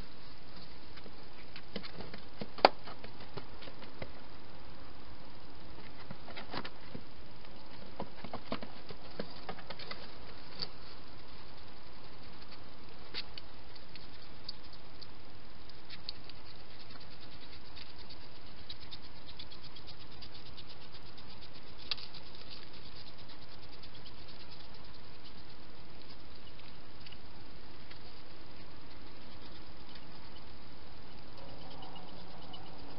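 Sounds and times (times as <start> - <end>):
steady hiss: 0.0 - 32.9
hedgehogs chewing and snuffling: 5.7 - 32.9.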